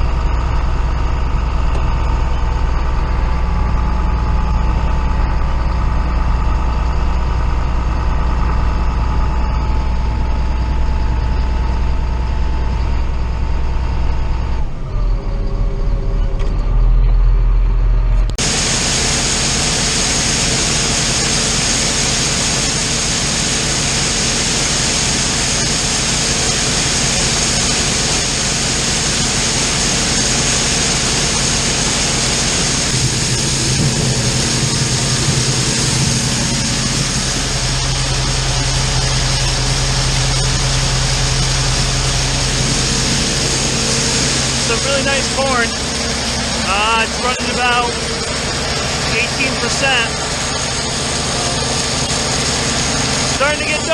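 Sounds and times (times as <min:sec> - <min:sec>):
diesel machinery humming: 0:00.0 - 0:53.9
hissy machine noise with whine: 0:00.0 - 0:53.9.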